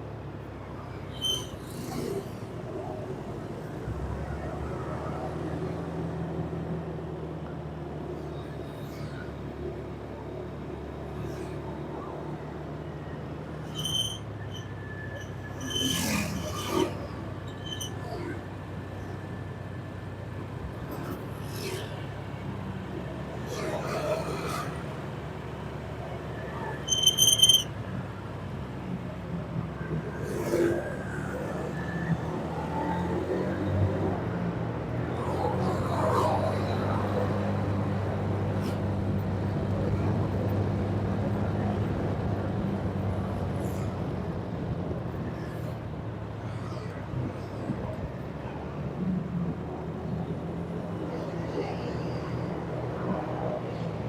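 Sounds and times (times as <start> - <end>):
road and traffic noise: 0.0 - 54.0.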